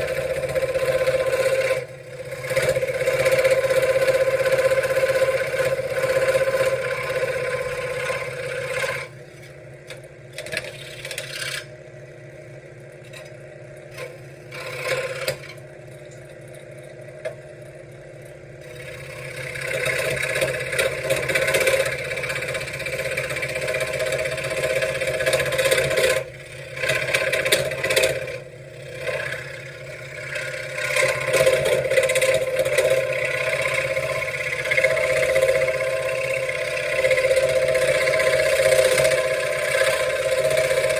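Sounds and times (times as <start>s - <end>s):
saw blade cutting wood: 0.0s - 9.2s, 10.4s - 11.7s, 13.9s - 15.6s, 18.6s - 40.9s
scroll saw motor hum: 0.0s - 16.6s, 18.6s - 40.9s.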